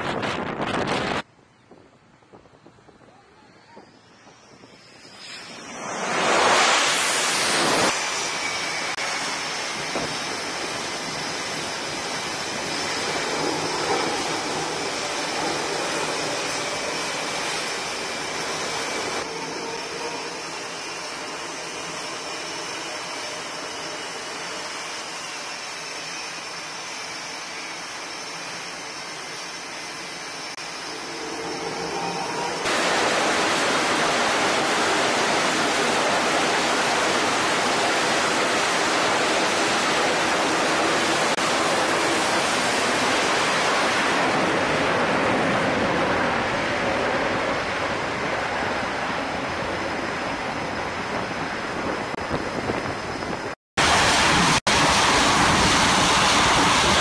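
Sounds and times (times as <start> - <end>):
jet engines with high whine: 0.0 - 57.0.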